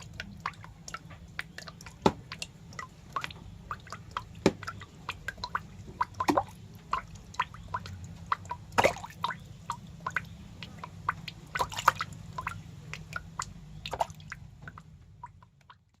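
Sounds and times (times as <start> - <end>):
snail feeding wet clicks: 0.0 - 16.0.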